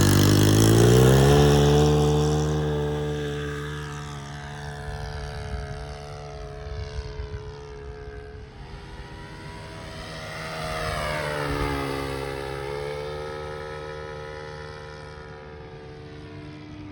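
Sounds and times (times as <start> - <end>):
model airplane engine drone: 0.0 - 16.9.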